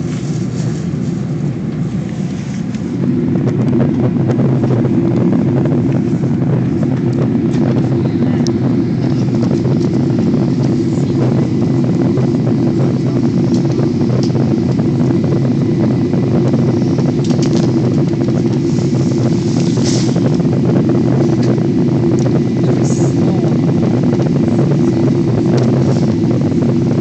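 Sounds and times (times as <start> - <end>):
jet cabin engine drone: 0.0 - 27.0.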